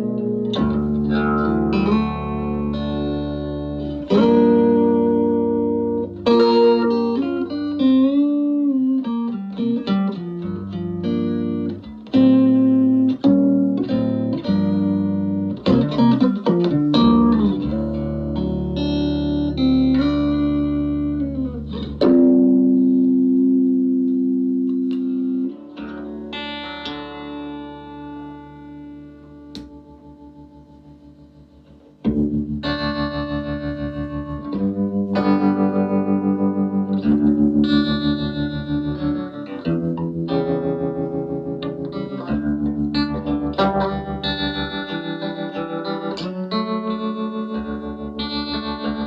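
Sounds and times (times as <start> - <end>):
electric guitar through valve amplifier: 0.0 - 49.0.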